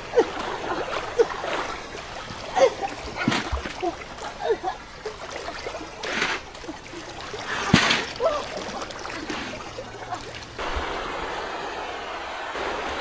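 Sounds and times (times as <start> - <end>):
river water splashing: 0.0 - 13.0.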